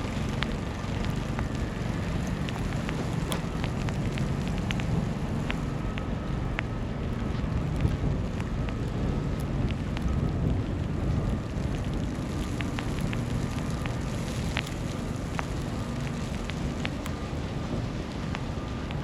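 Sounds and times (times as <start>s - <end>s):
distant city noise: 0.0s - 19.0s
low rumble of wind: 0.0s - 19.0s
small ticks: 0.2s - 19.0s.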